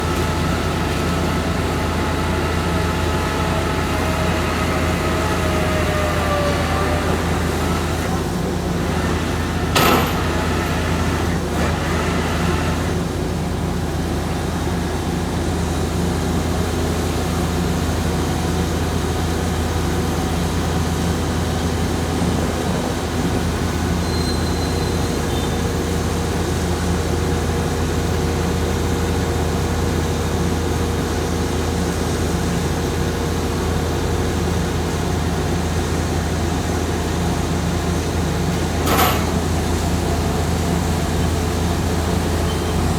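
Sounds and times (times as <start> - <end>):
heavy engine droning: 0.0 - 42.9.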